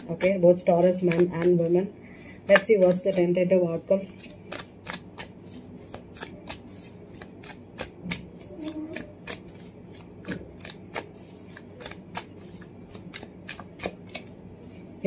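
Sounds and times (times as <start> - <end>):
cards being shuffled: 0.0 - 1.8, 2.5 - 14.4.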